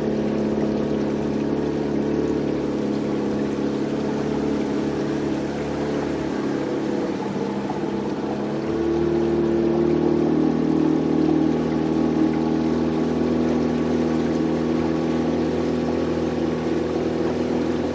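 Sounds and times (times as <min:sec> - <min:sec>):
motorboat engine running: 0:00.0 - 0:17.9.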